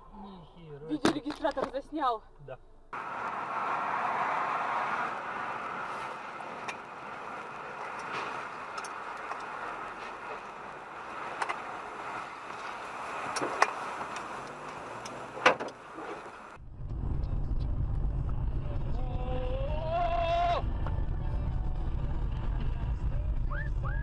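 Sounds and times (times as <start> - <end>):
car road noise: 2.8 - 24.0.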